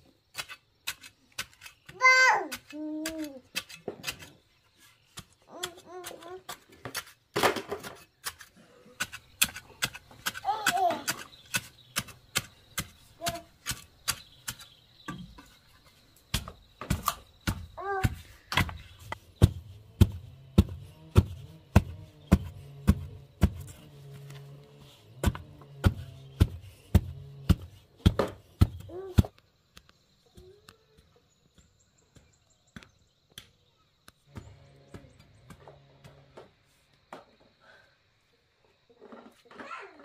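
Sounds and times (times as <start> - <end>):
wooden pole tamping soil: 0.0 - 33.6, 34.3 - 37.3.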